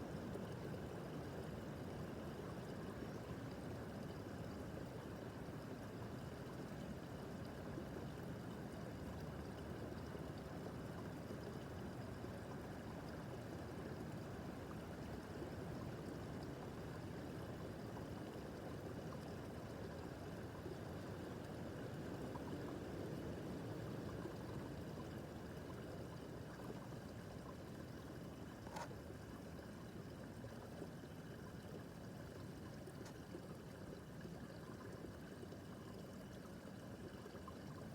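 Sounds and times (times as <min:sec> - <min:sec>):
brook gurgling over stones: 0:00.0 - 0:37.9.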